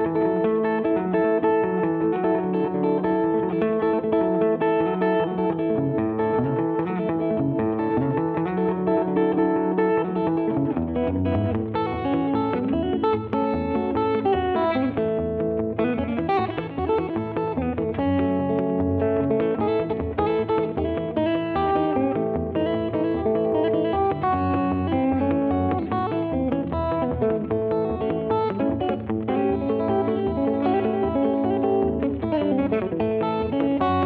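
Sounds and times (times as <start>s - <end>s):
plucked guitar notes: 0.0s - 34.0s.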